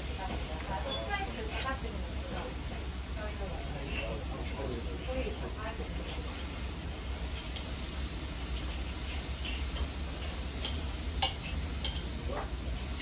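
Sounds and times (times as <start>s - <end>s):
steady sizzling hiss: 0.0s - 13.0s.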